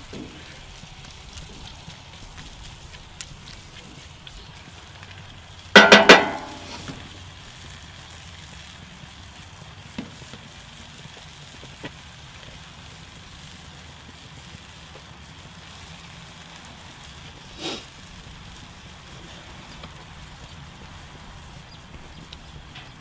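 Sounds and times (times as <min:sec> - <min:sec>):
meat sizzling in a skillet: 0:00.0 - 0:23.0
sharp crackles and pops: 0:00.0 - 0:23.0.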